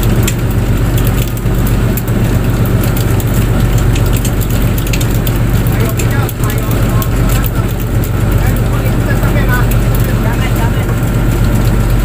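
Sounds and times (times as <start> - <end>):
boat engine droning: 0.0 - 12.0
crackling clicks: 0.0 - 12.0.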